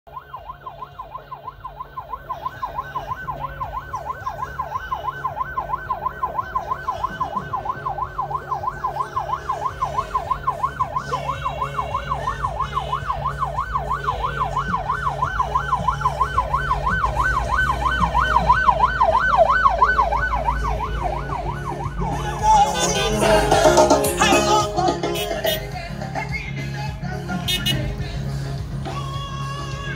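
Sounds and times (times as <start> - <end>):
siren yelping: 0.1 - 25.8
low engine rumble: 0.1 - 29.9.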